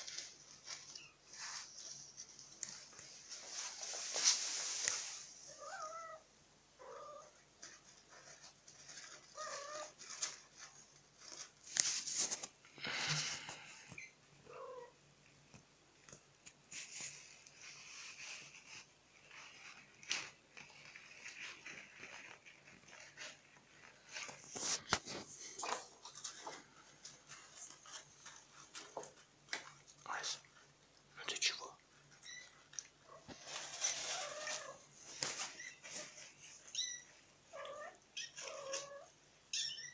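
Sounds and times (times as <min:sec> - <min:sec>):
scratching and rustling: 0:00.0 - 0:06.2, 0:06.9 - 0:39.9.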